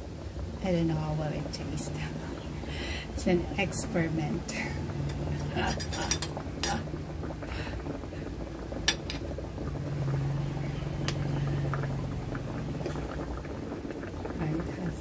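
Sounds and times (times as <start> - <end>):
liquid bubbling in a wok: 0.0 - 15.0
steady low hum: 0.0 - 15.0.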